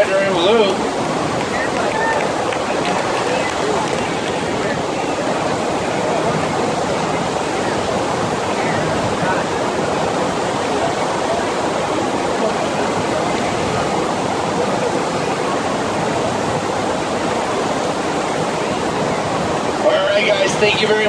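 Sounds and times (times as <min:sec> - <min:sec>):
rushing water roar: 0:00.0 - 0:21.0.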